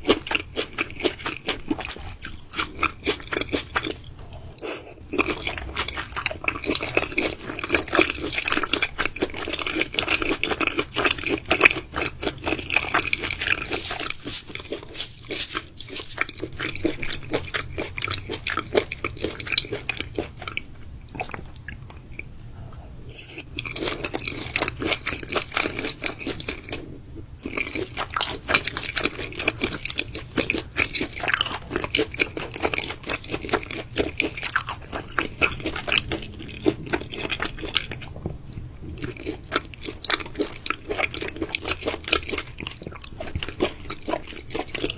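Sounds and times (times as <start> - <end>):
chewing and biting raw meat: 5.1 - 21.4, 23.6 - 38.1, 38.9 - 44.9.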